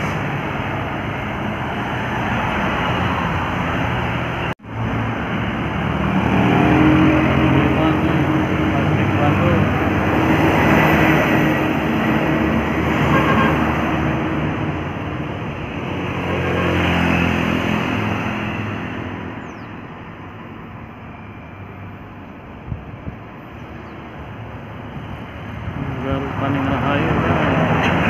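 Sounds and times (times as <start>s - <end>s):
heavy vehicle engine passing by: 0.0s - 19.7s, 23.6s - 28.0s.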